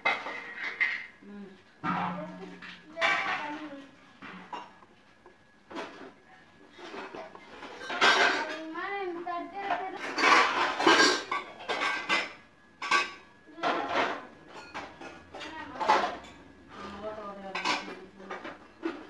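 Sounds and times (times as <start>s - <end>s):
hard objects clattering: 1.8s - 19.0s.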